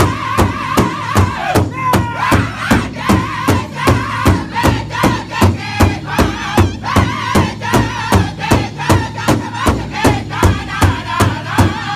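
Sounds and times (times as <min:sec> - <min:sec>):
group singing in unison: 0:00.0 - 0:11.9
large drum beating: 0:00.0 - 0:11.9.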